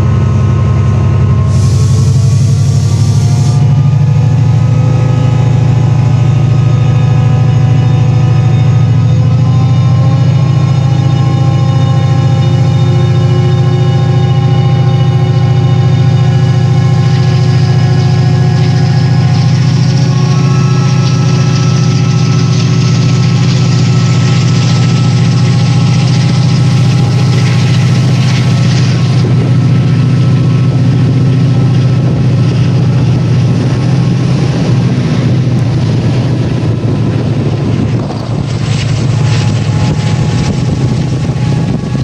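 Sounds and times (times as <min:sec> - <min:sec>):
locomotive diesel engine running: 0:00.0 - 0:42.0.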